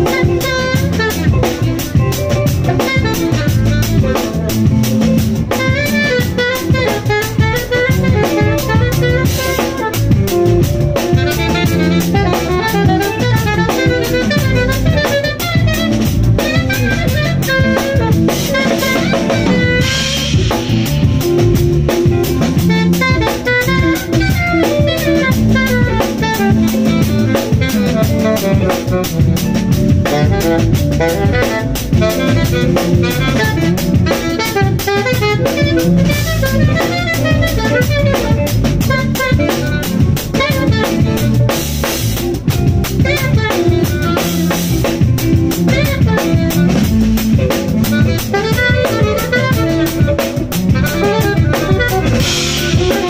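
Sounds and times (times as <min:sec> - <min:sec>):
alto saxophone: 0:00.0 - 0:53.0
drum kit: 0:00.0 - 0:53.0
electric bass guitar: 0:00.0 - 0:53.0.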